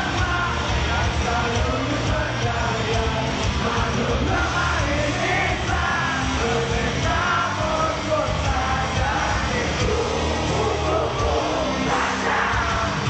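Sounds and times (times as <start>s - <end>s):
person singing: 0.0s - 13.0s
rock band playing: 0.0s - 13.0s.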